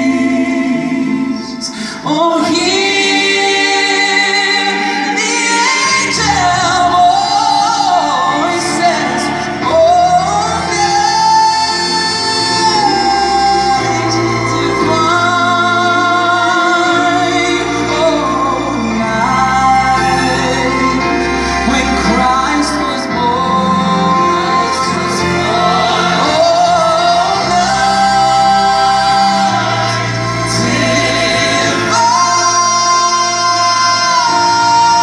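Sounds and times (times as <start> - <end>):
orchestra strings: 0.0 - 35.0
piano: 0.0 - 35.0
woman singing with vibrato: 0.0 - 35.0.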